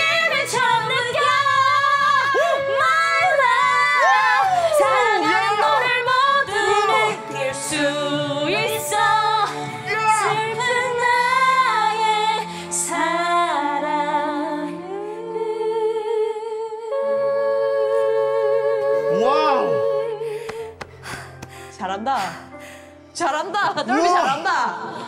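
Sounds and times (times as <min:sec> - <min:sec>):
woman singing a ballad: 0:00.0 - 0:20.8.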